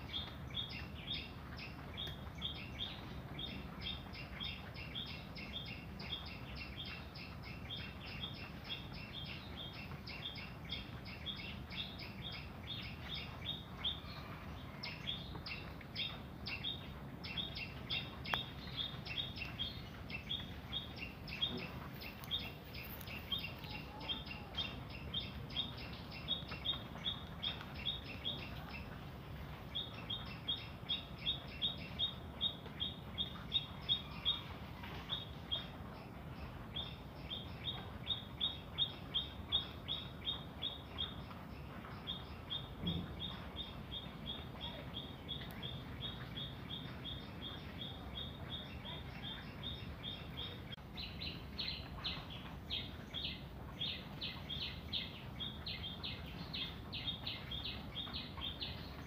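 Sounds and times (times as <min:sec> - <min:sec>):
small bird chirping: 0:00.0 - 0:59.0.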